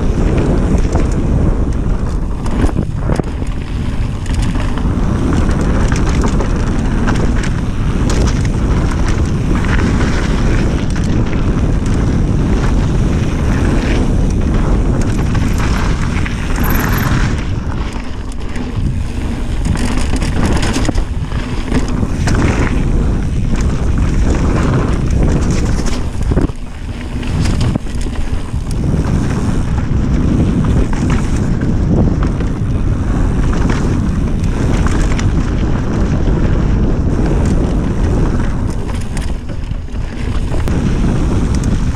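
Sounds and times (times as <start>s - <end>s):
bike rattling and knocking: 0.0s - 41.9s
bike tyres rolling over dirt: 0.0s - 41.9s
wind buffeting microphone: 0.0s - 41.9s.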